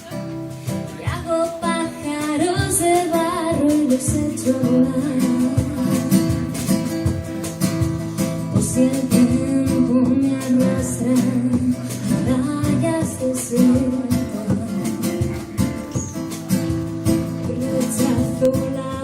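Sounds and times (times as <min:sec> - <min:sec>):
acoustic guitar strumming chords: 0:00.0 - 0:19.0
cajon beating a rhythm: 0:00.0 - 0:19.0.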